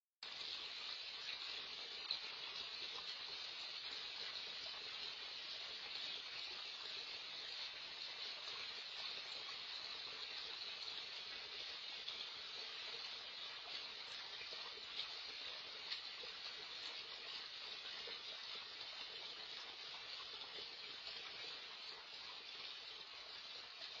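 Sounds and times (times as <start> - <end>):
fountain water splashing into pond: 0.2 - 24.0.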